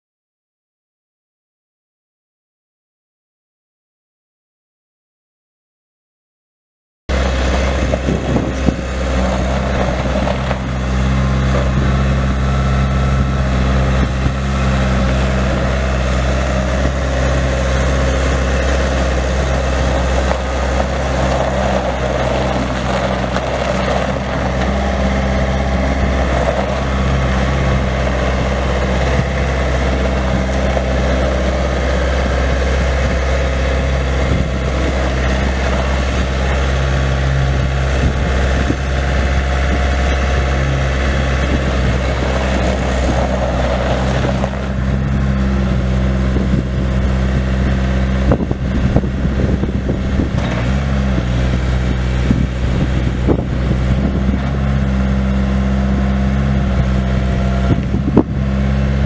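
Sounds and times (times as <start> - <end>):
diesel engine running steadily: 7.1 - 59.0.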